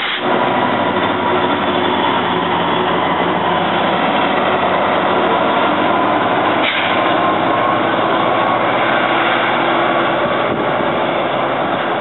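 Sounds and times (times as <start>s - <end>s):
passenger train running past: 0.0s - 12.0s.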